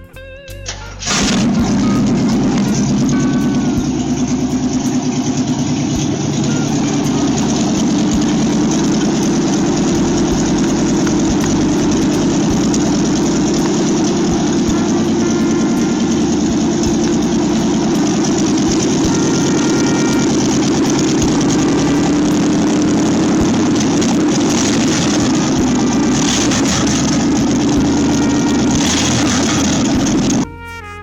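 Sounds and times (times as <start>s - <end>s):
car engine idling: 0.7s - 30.5s.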